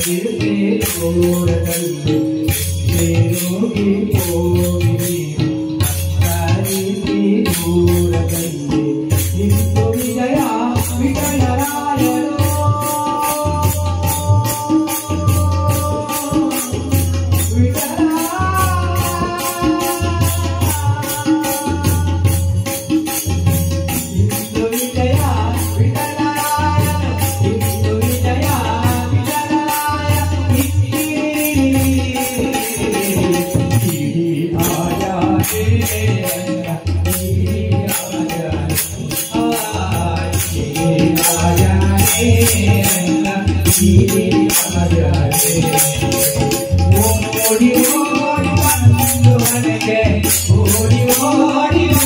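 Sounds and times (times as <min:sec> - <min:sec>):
jingling percussion: 0:00.0 - 0:52.0
steady drum beat: 0:00.0 - 0:52.0.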